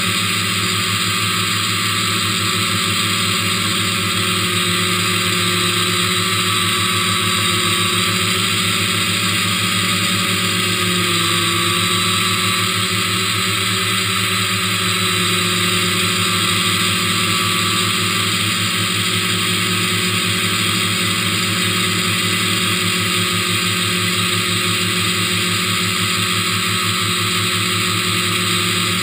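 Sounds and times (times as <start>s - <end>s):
drone propellers whirring: 0.0s - 29.0s.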